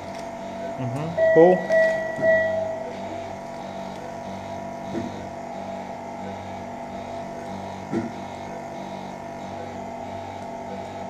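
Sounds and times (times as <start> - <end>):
faint regular pulsing: 0.0 - 11.0
machine hum: 0.0 - 11.0.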